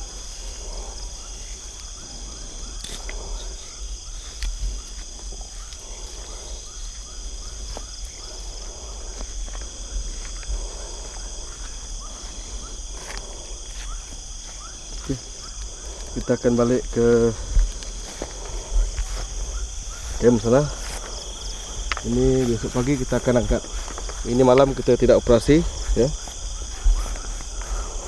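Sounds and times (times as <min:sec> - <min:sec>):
crickets and night insects: 0:00.0 - 0:28.0.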